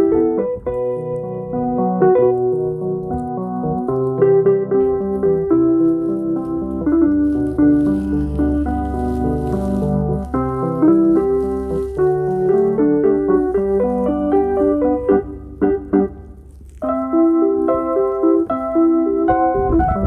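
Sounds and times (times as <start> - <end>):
piano-toned keyboard melody: 0.0 - 20.0.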